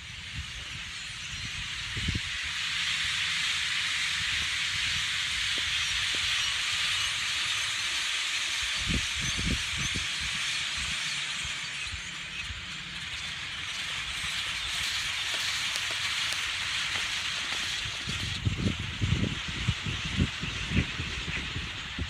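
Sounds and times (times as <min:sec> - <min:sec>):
flock of birds chattering: 0:00.0 - 0:22.0.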